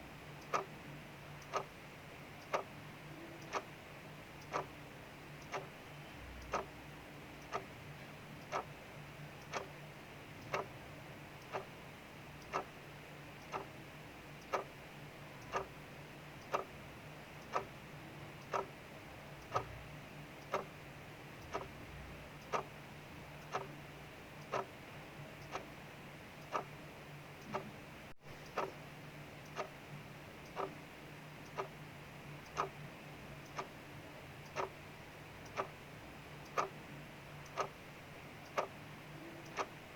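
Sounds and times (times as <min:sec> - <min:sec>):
faint hum and hiss: 0:00.0 - 0:39.9
clock ticking: 0:00.3 - 0:07.8, 0:08.4 - 0:11.8, 0:12.4 - 0:28.8, 0:29.4 - 0:30.8, 0:31.4 - 0:31.8, 0:32.4 - 0:33.8, 0:34.4 - 0:39.9.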